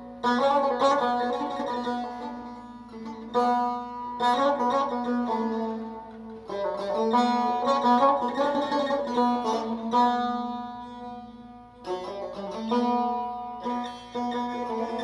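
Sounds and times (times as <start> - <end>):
plucked lute playing: 0.0 - 15.0.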